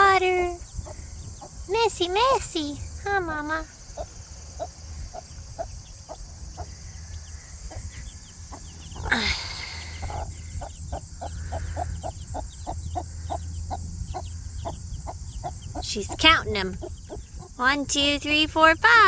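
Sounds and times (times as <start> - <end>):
hen clucking: 0.0 - 18.5
chicks peeping: 0.0 - 19.0.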